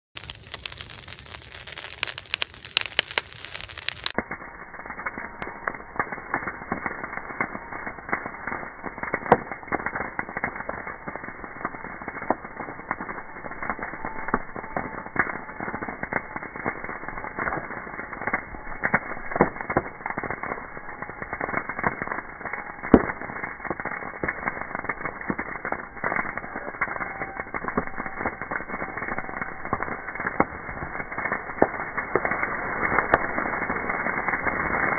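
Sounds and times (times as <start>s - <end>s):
brush pile burning and crackling: 0.1s - 34.9s.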